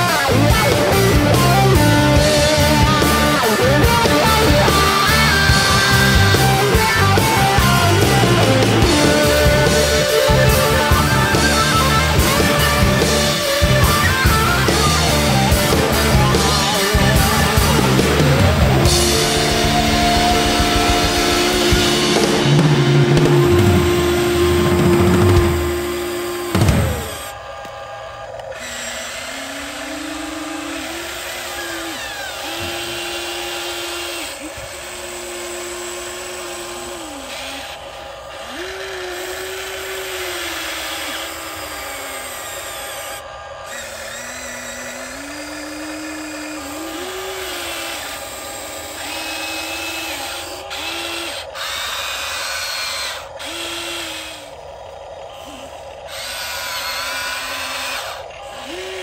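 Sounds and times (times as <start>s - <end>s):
electric motors and gears whirring: 0.0s - 59.0s.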